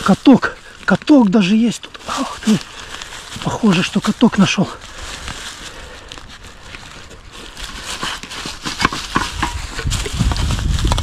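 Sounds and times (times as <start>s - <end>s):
footsteps on forest floor: 0.0s - 11.0s.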